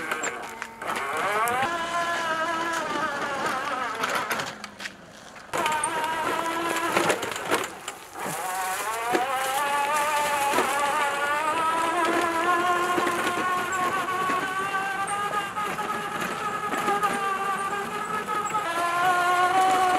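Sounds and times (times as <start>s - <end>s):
electric motor whining: 0.0s - 19.9s.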